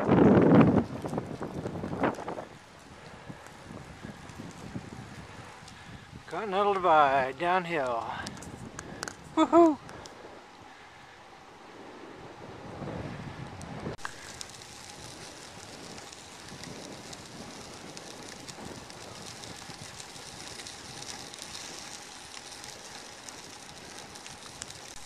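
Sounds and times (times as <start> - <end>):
tyres crackling on grit: 0.0 - 10.3, 13.4 - 25.0
wind on microphone: 0.0 - 10.8, 11.6 - 25.0
bicycle tyre noise: 0.0 - 25.0.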